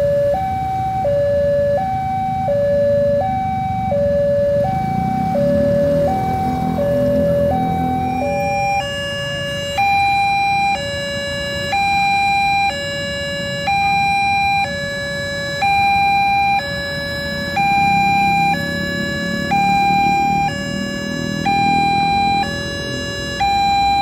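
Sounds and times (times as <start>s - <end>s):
level crossing alarm two-tone: 0.0s - 24.0s.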